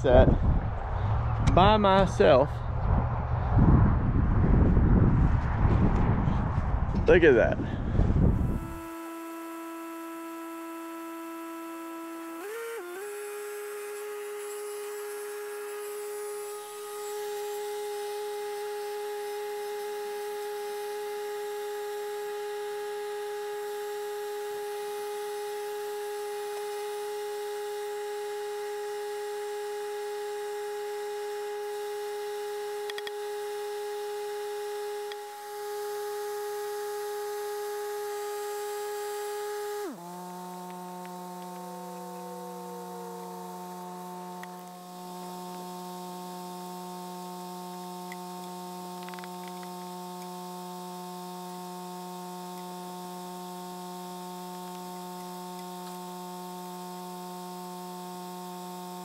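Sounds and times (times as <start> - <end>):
humming drone of held tones: 7.6 - 59.0.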